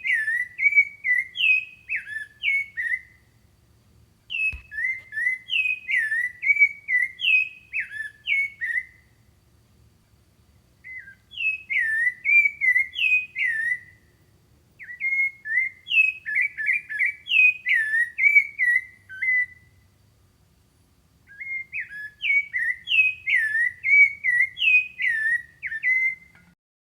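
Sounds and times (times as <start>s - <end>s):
songbird whistled song: 0.0s - 9.4s, 10.5s - 20.0s, 21.2s - 26.6s.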